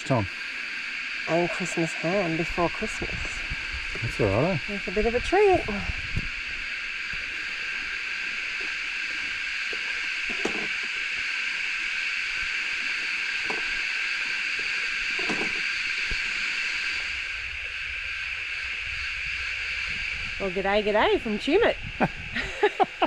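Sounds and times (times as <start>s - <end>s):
insect chorus droning: 0.0s - 23.0s.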